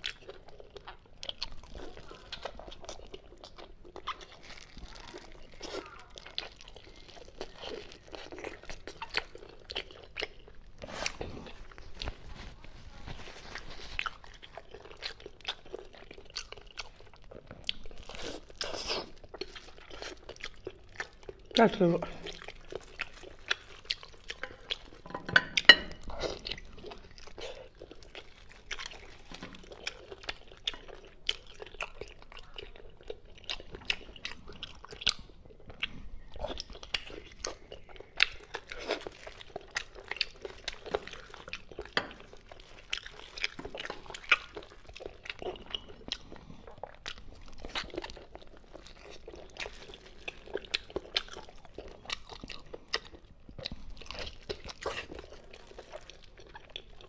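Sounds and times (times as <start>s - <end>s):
wet chewing and smacking: 0.0s - 57.0s.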